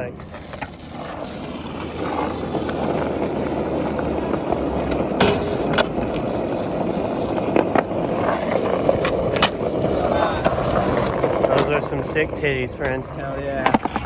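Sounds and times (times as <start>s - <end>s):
skateboard clacks: 0.0s - 14.0s
skateboard wheels rolling: 0.0s - 14.0s.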